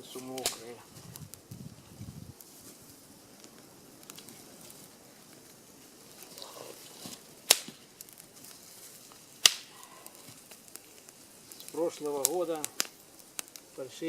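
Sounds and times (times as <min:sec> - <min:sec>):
campfire crackling: 0:00.0 - 0:14.0
fire popping: 0:00.0 - 0:14.0.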